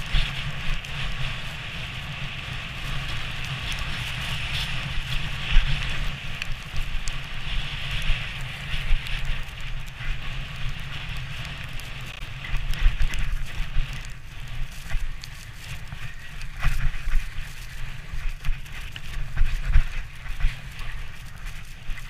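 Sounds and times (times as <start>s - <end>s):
sledge runners scraping over snow: 0.0s - 22.0s.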